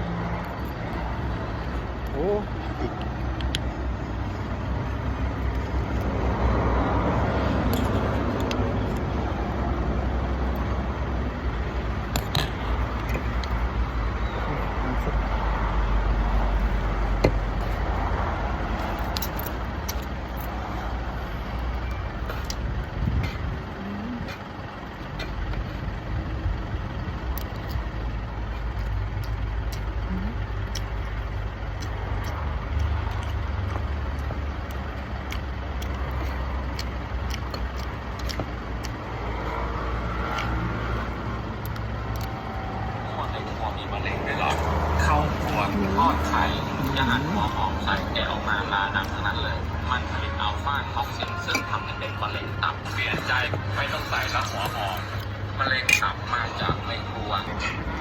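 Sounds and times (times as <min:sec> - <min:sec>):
motor vehicle rumble: 0:00.0 - 0:58.0.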